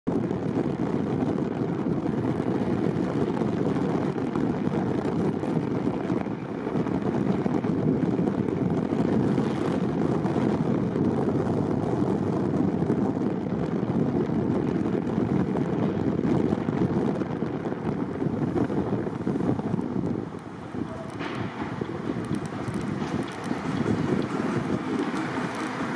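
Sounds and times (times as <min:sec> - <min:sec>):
car road and wind noise: 0:00.0 - 0:25.9.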